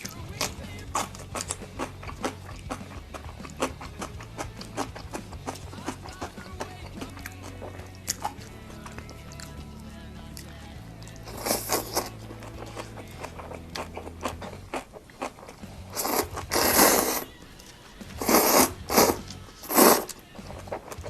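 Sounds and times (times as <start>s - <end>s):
crunchy food being chewed: 0.0s - 21.0s.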